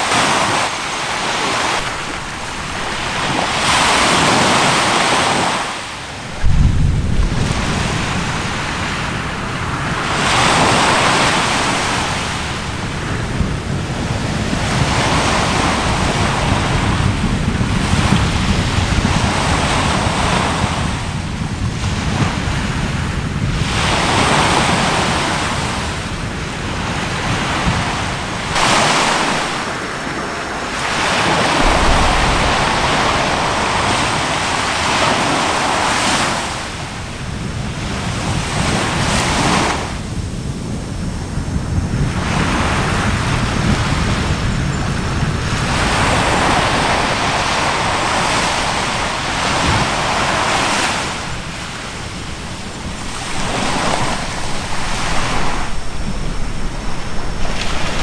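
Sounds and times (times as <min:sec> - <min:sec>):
sea waves washing on shore: 0:00.0 - 0:58.0
wind buffeting microphone: 0:00.0 - 0:58.0.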